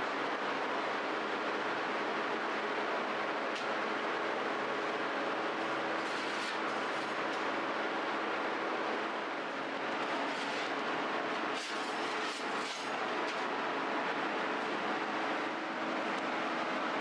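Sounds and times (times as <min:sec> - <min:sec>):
bakery equipment humming: 0:02.4 - 0:17.0.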